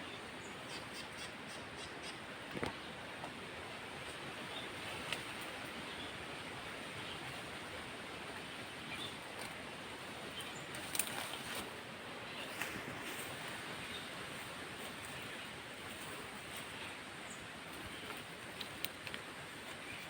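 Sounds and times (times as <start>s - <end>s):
open-air background hiss: 0.0s - 20.0s.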